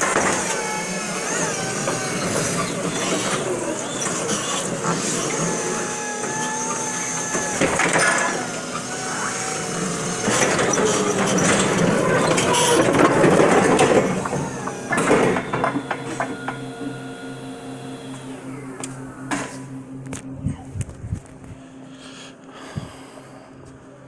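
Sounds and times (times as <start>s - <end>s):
electric truck motor whine: 0.0s - 24.0s
mechanical noise: 0.0s - 24.0s.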